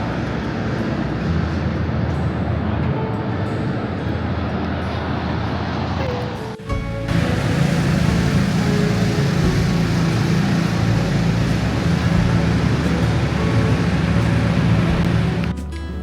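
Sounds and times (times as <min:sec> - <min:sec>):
vehicle rumble and road noise: 0:00.0 - 0:16.0.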